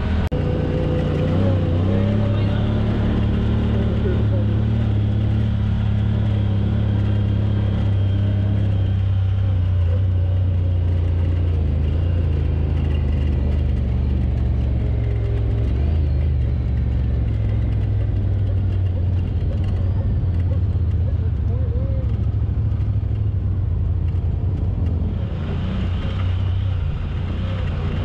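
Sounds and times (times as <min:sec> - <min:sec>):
vehicle engine droning: 0:00.0 - 0:28.0.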